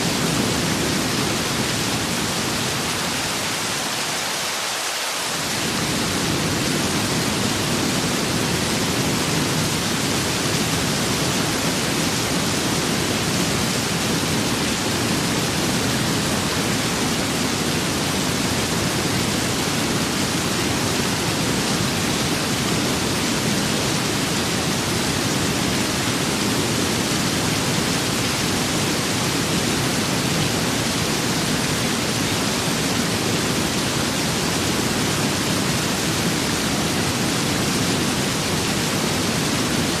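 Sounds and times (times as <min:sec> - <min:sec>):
steady rain: 0:00.0 - 0:40.0
wind: 0:00.0 - 0:40.0.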